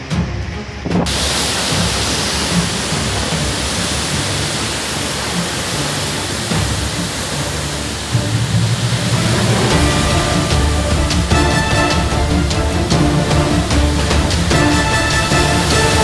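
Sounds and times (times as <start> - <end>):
background music: 0.0 - 16.0
roar of wind and rain: 0.1 - 16.0.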